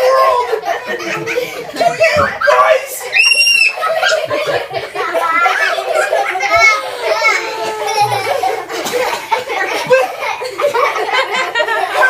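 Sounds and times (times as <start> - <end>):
children squealing and laughing: 0.0 - 12.0.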